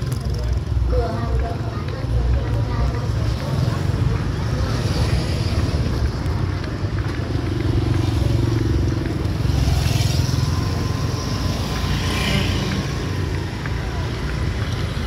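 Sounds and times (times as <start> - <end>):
motor scooter engines humming: 0.0 - 15.0.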